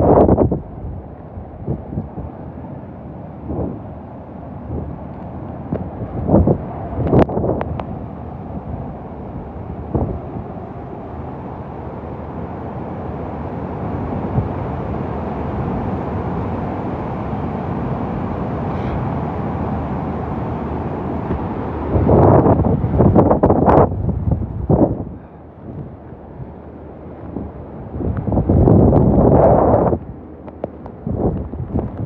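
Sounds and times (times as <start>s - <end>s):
hurricane wind rushing: 0.0s - 32.0s
wind gusts buffeting microphone: 0.0s - 32.0s.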